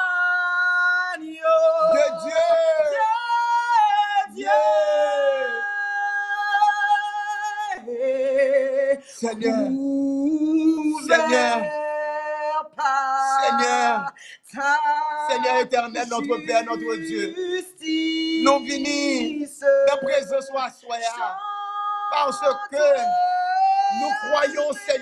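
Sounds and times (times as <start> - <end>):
man and woman singing: 0.0 - 25.0.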